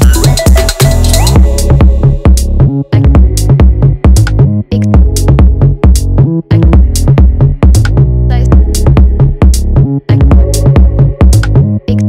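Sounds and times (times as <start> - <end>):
electronic music with drum machine: 0.0 - 12.0.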